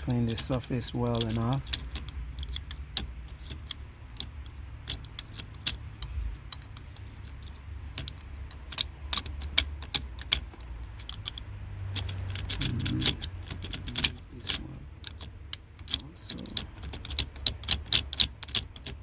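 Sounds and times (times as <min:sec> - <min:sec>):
low steady hum: 0:00.0 - 0:19.0
metal pick scraping and clicking: 0:00.0 - 0:19.0.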